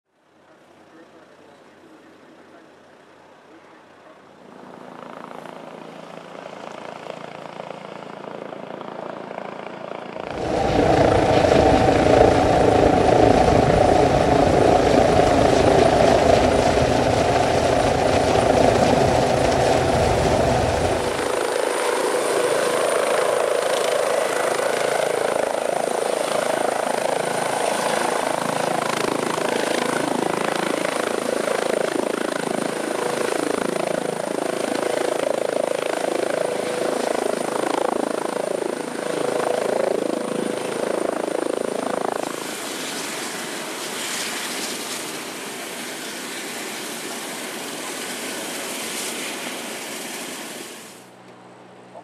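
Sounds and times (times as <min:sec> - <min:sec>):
helicopter rotor and turbine: 0:02.8 - 0:52.0.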